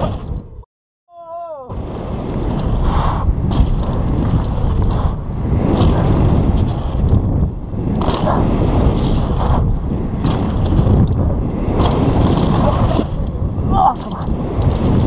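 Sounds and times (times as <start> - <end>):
wind rushing over microphone: 1.6 - 15.0.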